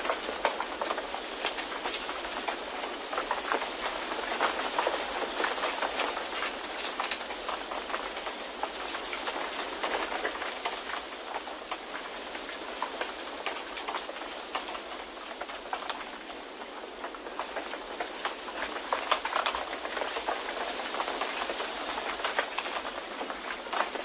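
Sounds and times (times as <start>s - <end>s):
small crackles and ticks: 0.0s - 24.0s.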